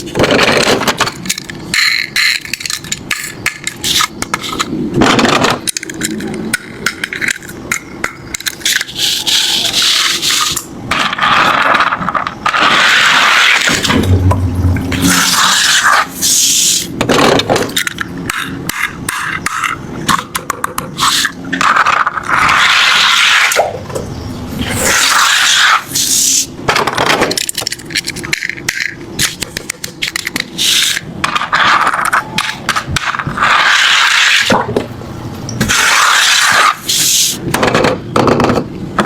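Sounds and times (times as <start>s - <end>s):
toy cars scraping and clattering: 0.0s - 14.2s, 15.0s - 23.8s, 24.6s - 34.7s, 35.6s - 39.0s.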